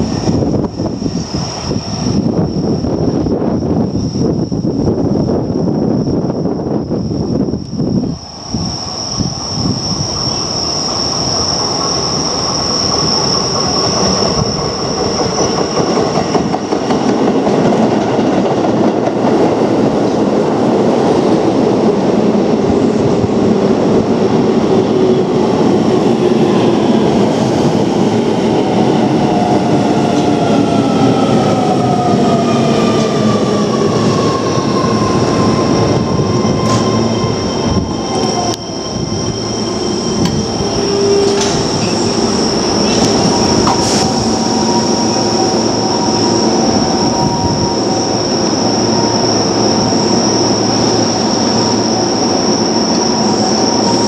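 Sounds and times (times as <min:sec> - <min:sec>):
train wheels on track: 0:00.0 - 0:54.0.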